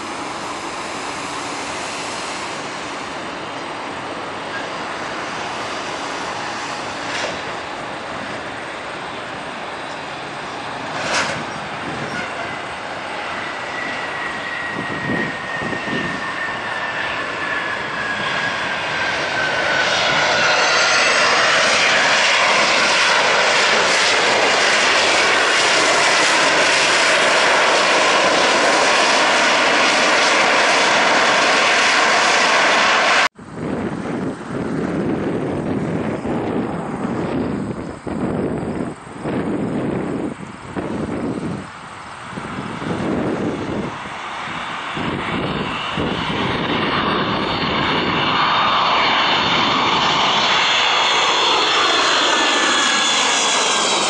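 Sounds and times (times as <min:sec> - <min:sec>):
distant jet whine: 0:00.0 - 0:54.0
jet taxiing past: 0:00.0 - 0:54.0.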